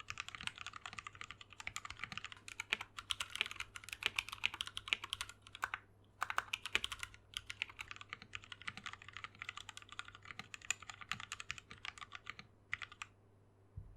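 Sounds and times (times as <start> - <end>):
mechanical keyboard typing: 0.0 - 13.1.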